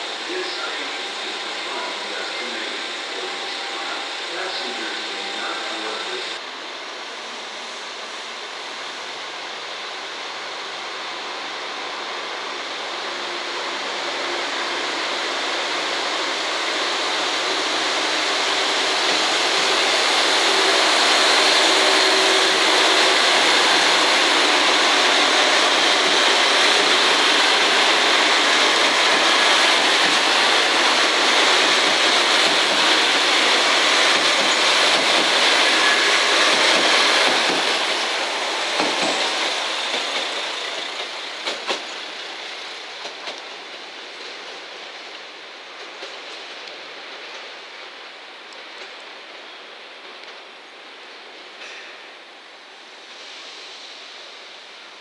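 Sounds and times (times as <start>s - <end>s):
diesel train engine and wheels: 0.0s - 55.0s.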